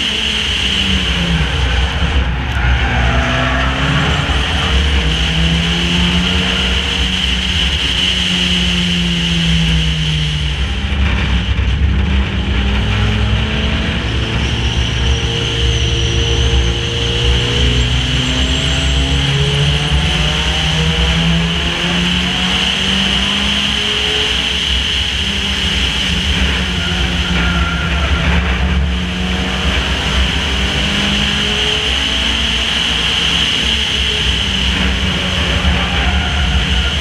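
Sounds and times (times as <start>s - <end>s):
race car engine: 0.0s - 37.0s
wind and road noise: 0.0s - 37.0s.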